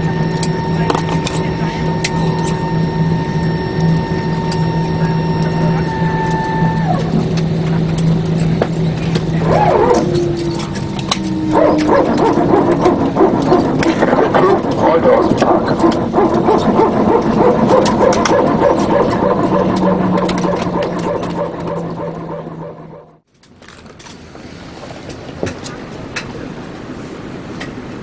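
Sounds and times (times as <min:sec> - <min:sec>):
murmur of passengers' voices: 0:00.0 - 0:23.0, 0:24.8 - 0:28.0
aircraft low hum: 0:00.0 - 0:23.3.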